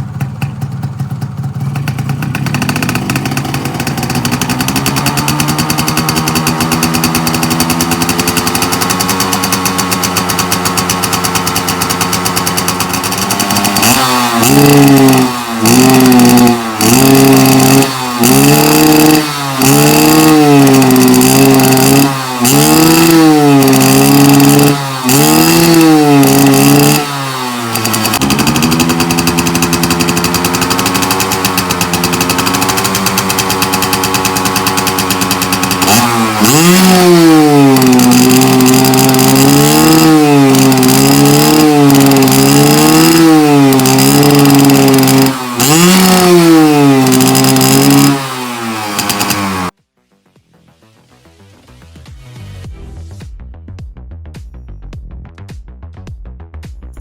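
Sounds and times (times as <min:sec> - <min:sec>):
motorcycle engine revving: 0:00.0 - 0:49.8.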